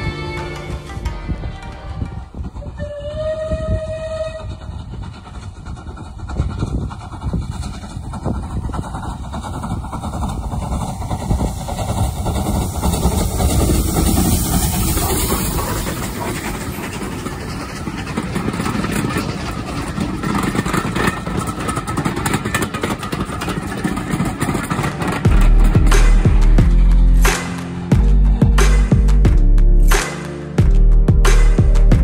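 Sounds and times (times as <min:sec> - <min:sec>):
steam locomotive exhaust rushing: 0:00.0 - 0:29.2.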